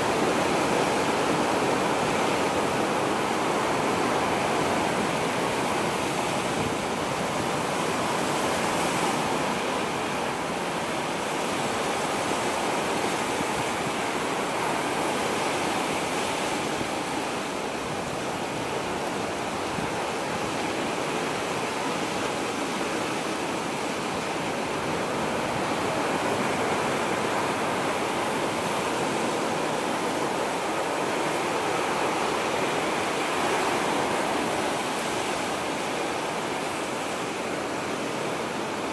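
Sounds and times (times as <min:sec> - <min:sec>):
steady outdoor rushing noise: 0:00.0 - 0:38.9.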